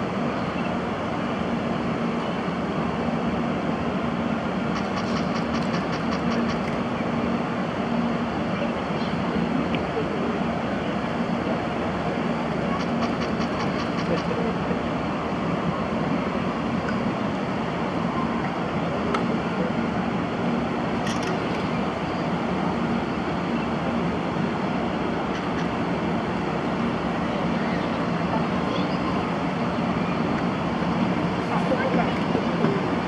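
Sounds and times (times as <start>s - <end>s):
train rumbling with a hum: 0.0s - 33.0s.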